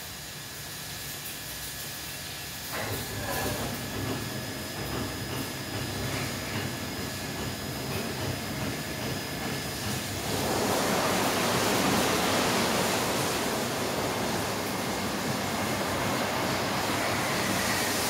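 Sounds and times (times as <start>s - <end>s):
car wash machine rushing hiss: 0.0s - 18.0s.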